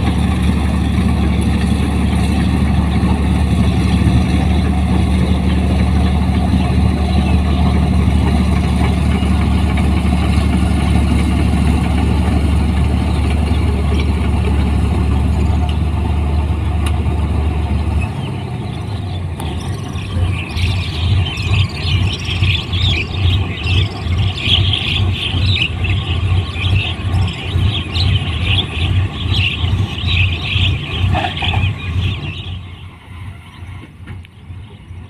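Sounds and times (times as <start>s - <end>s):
combine harvester diesel engine: 0.0s - 35.0s.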